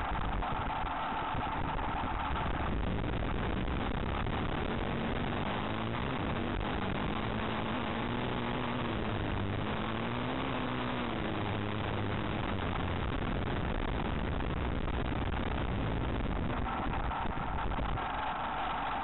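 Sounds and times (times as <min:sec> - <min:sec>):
wind rushing on microphone: 0:00.0 - 0:10.0, 0:11.1 - 0:18.4
motorcycle engine revving: 0:00.0 - 0:19.0.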